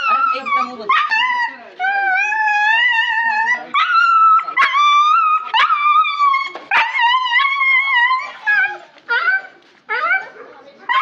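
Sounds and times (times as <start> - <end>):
dog yelping and whining: 0.0 - 11.0.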